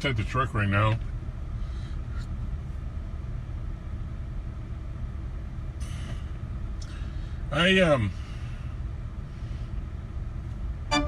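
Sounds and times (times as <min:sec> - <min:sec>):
truck engine low rumble: 0:00.0 - 0:11.0.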